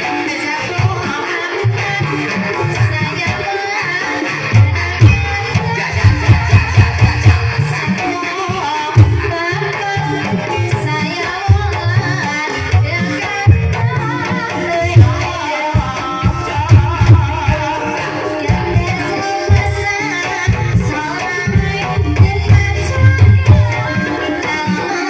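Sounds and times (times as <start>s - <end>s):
hand drums beating: 0.0s - 25.0s.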